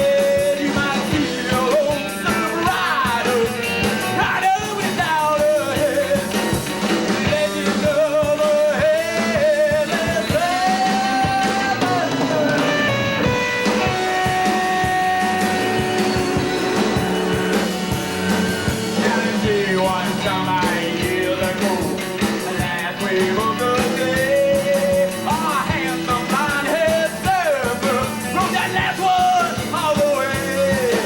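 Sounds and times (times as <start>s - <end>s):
lead singer singing: 0.0s - 31.0s
rock band playing live: 0.0s - 31.0s.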